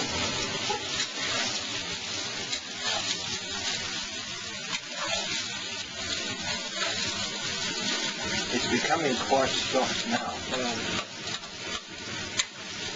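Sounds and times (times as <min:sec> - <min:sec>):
vegetables sizzling in oil: 0:00.0 - 0:12.9.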